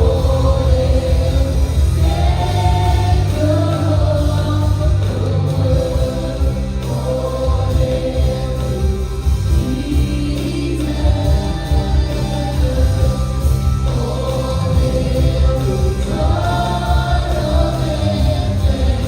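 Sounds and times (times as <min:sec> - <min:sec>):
band with bass and guitar: 0:00.0 - 0:19.0
group of singers singing: 0:00.0 - 0:19.0.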